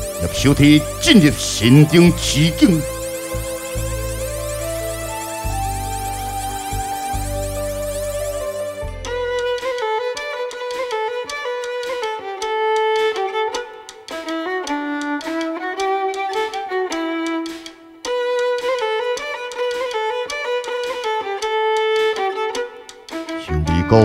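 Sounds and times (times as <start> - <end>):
bowed string music: 0.0 - 24.0.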